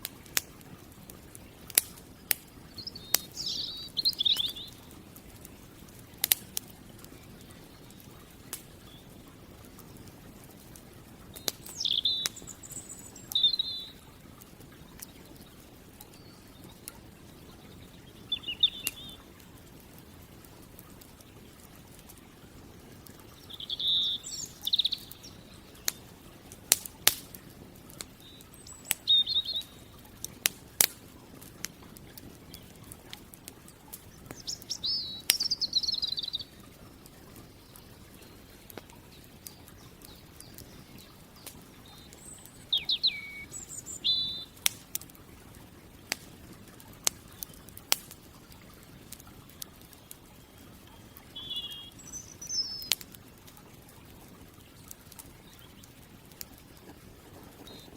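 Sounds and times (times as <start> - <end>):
campfire crackling and popping: 0.0 - 57.9
small birds chirping: 0.1 - 57.9.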